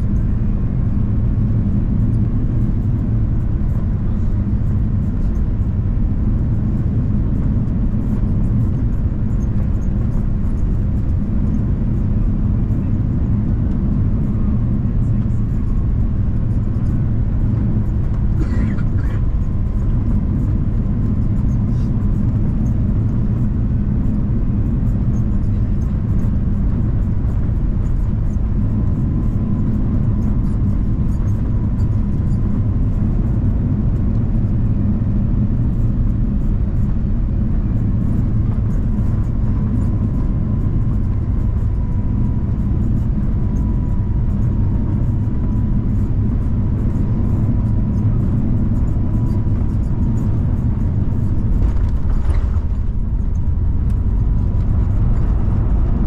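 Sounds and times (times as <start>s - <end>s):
aircraft cabin rumble: 0.0s - 56.0s
faint steady whine: 0.0s - 56.0s.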